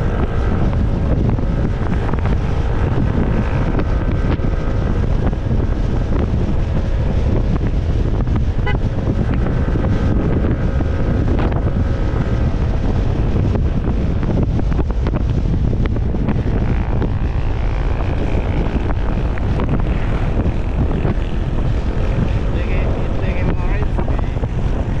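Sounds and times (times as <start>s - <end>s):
motor scooter engine at speed: 0.0s - 25.0s
wind rush on microphone: 0.0s - 25.0s.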